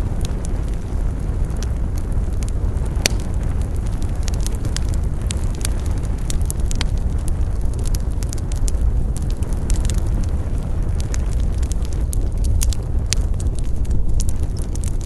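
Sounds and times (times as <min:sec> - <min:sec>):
campfire crackling and popping: 0:00.0 - 0:15.0
fire low rumble: 0:00.0 - 0:15.0.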